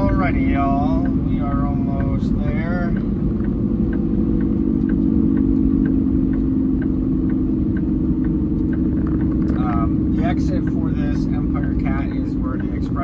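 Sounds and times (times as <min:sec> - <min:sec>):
light even ticking: 0:00.0 - 0:13.0
truck diesel engine drone: 0:00.0 - 0:13.0.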